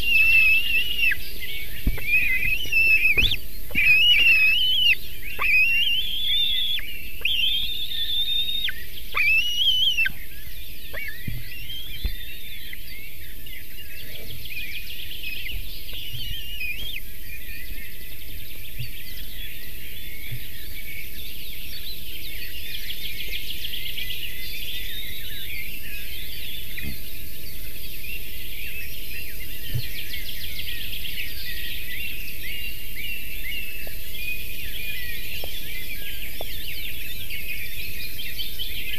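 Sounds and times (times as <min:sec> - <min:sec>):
birds whistling and chirping: 0:00.0 - 0:38.9.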